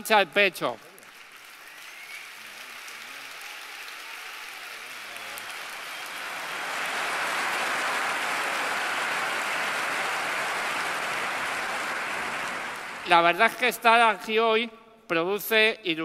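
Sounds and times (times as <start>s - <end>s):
large crowd applauding: 0.0s - 14.1s.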